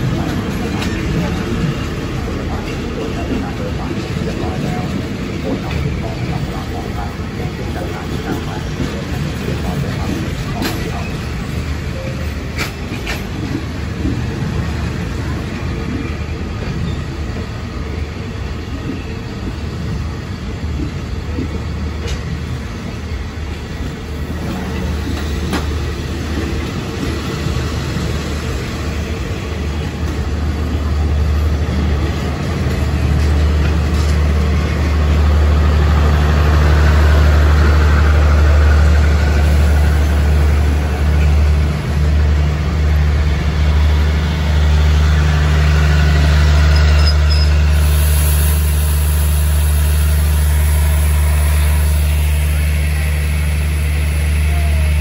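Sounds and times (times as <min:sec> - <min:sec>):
passing train diesel drone: 0:00.0 - 0:55.0.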